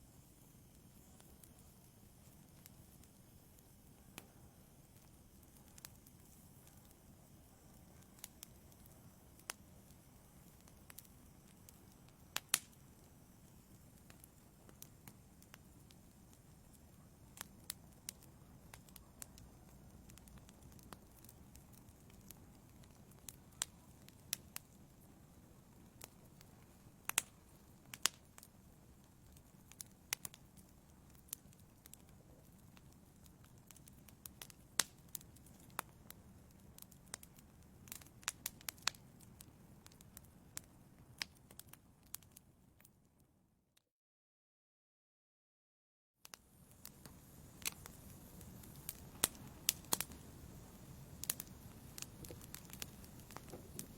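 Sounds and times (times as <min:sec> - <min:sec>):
low rumble of flames: 0:00.0 - 0:42.3, 0:46.5 - 0:53.9
wood fire crackling and popping: 0:00.1 - 0:42.9, 0:46.2 - 0:53.9.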